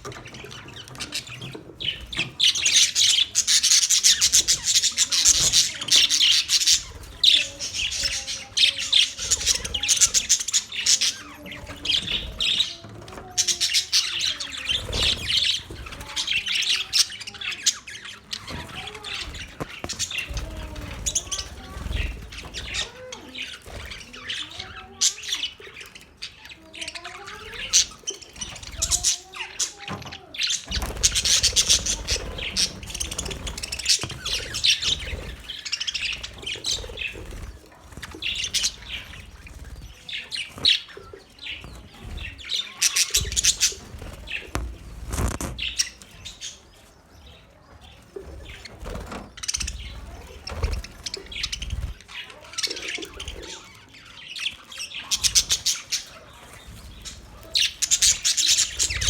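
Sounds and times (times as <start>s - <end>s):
budgerigars chirping and chattering: 0.0s - 59.0s.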